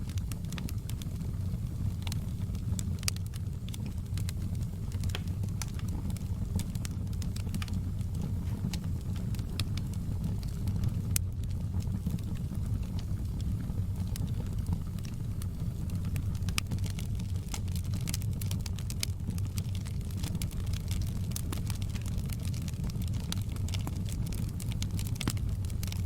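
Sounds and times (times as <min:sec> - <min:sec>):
low rumble of flames: 0:00.0 - 0:26.0
wood fire crackling and popping: 0:00.0 - 0:26.0.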